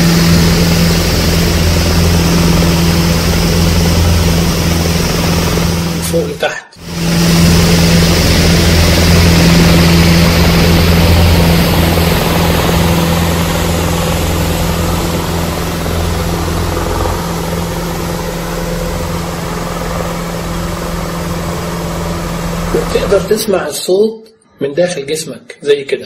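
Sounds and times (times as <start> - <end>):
low mechanical drone: 0.0 - 23.7.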